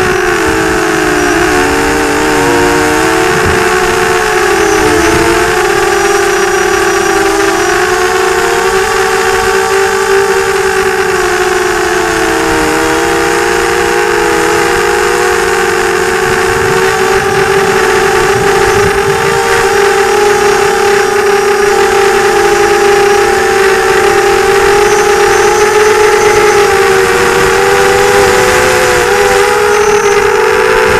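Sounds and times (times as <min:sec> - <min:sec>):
drone propellers whining: 0:00.0 - 0:30.9.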